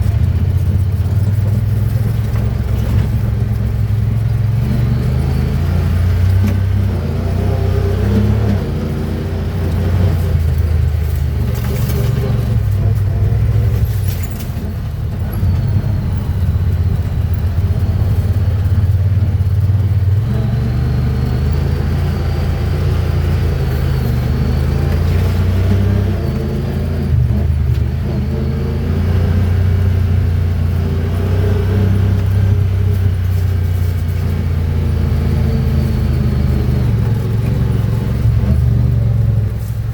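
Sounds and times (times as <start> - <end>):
utility vehicle engine running: 0.0 - 39.9.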